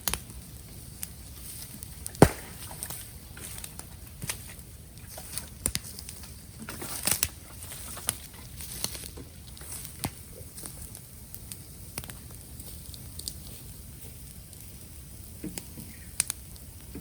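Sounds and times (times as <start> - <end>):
bamboo fire crackling and popping: 0.0 - 17.0.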